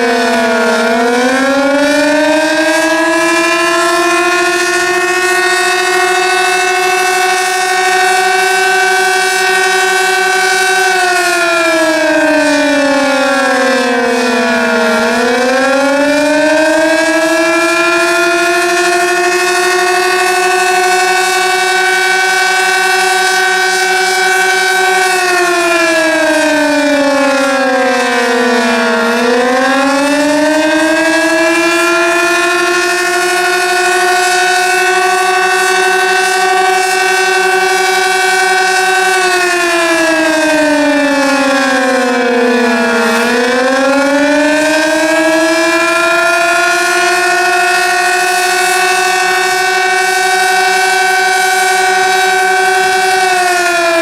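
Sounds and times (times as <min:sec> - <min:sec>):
warning siren wailing: 0:00.0 - 0:54.0.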